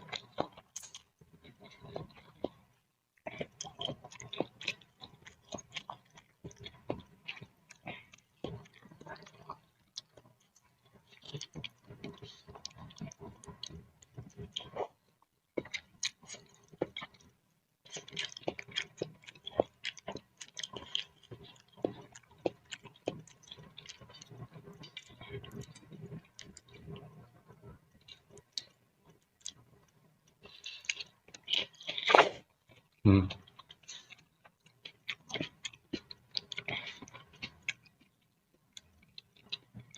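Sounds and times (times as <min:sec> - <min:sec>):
wet chewing of noodles: 0:00.0 - 0:39.9.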